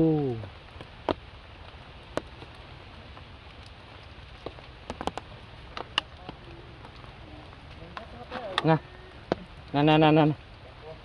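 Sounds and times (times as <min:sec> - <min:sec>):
raindrops pattering on leaves: 0:00.0 - 0:11.0.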